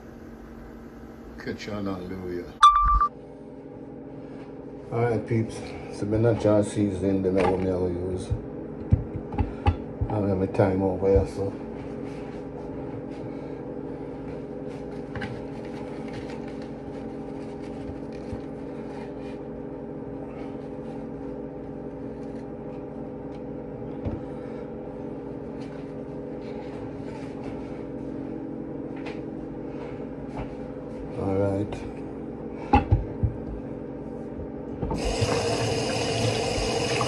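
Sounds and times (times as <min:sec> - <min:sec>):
steady appliance hum: 0:00.0 - 0:37.0.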